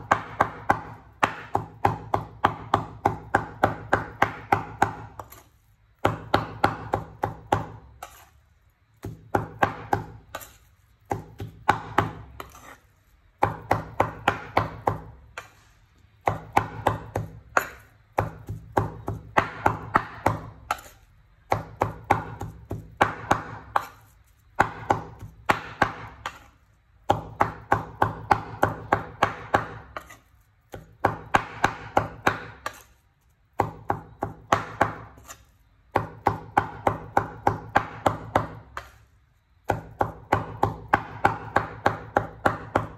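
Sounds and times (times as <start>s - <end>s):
cleaver chopping meat on wooden board: 0.0s - 5.4s, 6.0s - 8.2s, 9.0s - 15.5s, 16.2s - 32.9s, 33.5s - 39.0s, 39.6s - 42.9s.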